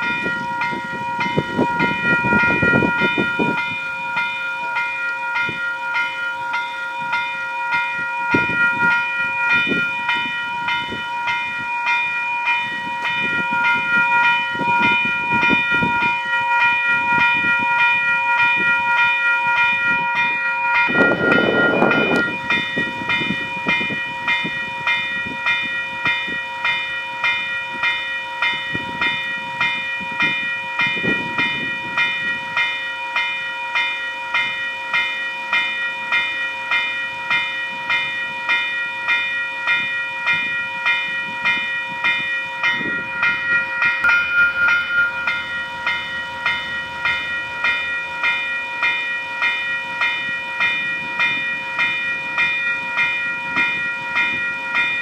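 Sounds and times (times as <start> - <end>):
level crossing bell ringing: 0.0 - 55.0.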